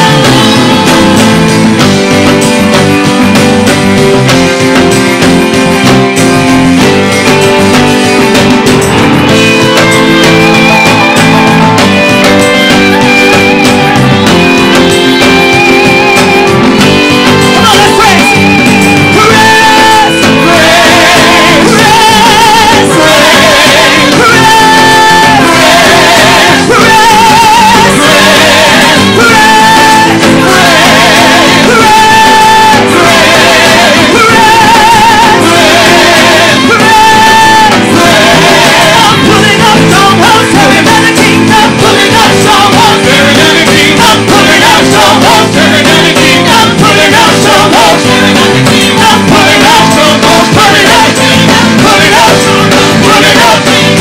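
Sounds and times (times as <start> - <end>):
band with guitar playing: 0.0 - 54.0
voices singing with vibrato: 0.0 - 54.0.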